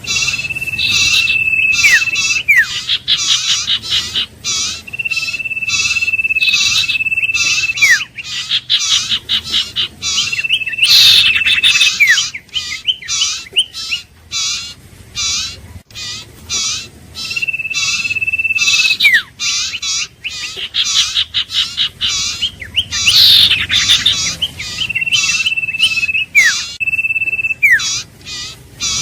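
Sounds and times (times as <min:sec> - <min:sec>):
bird high whistles: 0:00.0 - 0:14.6, 0:15.2 - 0:29.0
bird chattering notes: 0:00.0 - 0:29.0.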